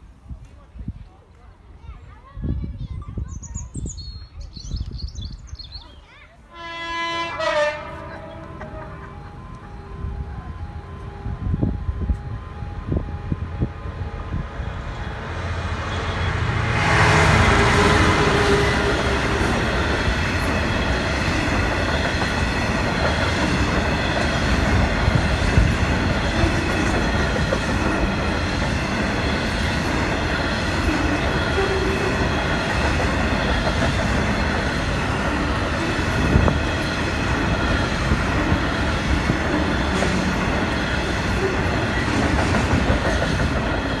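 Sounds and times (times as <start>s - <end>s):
diesel locomotive passing: 6.5s - 44.0s.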